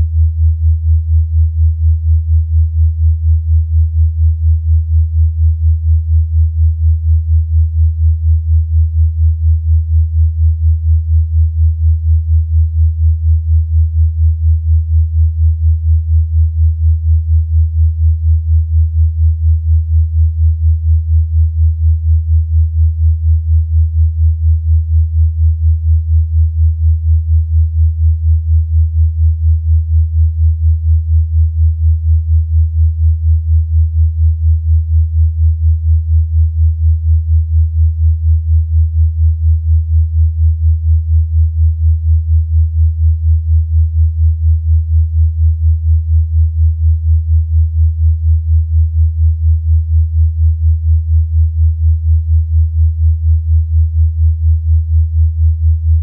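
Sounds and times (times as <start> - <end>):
pulsing low sine tone: 0.0 - 56.0.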